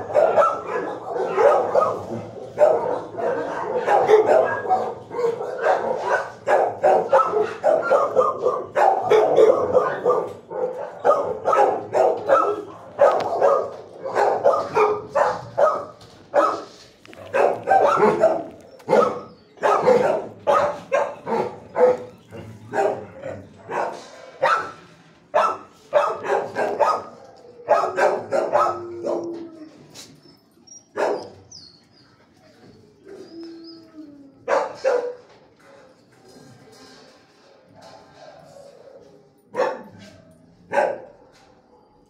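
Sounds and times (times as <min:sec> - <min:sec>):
dogs barking: 0:00.0 - 0:29.5, 0:30.9 - 0:31.7, 0:34.4 - 0:35.8, 0:37.7 - 0:42.0.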